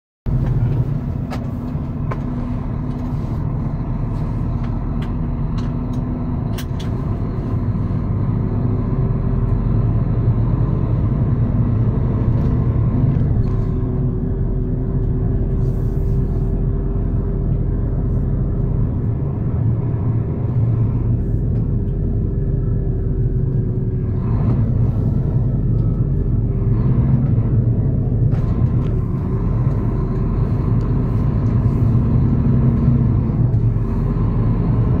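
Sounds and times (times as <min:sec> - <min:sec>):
diesel engine drone: 0:00.2 - 0:35.0
road rumble: 0:00.2 - 0:35.0.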